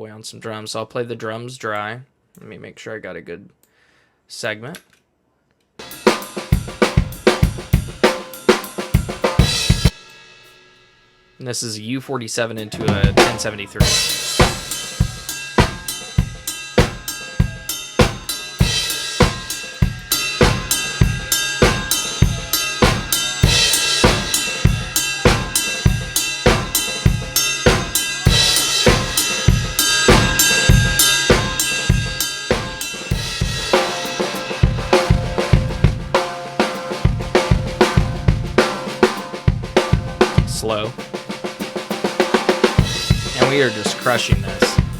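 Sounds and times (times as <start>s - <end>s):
drum kit playing steady beat: 5.8s - 10.7s, 12.6s - 44.9s.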